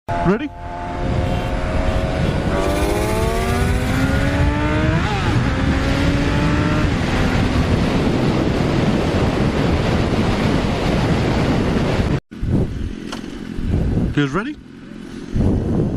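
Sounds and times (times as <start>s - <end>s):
motorcycle engine accelerating: 0.1s - 15.9s
loud rush of wind: 0.6s - 14.2s, 15.2s - 15.9s.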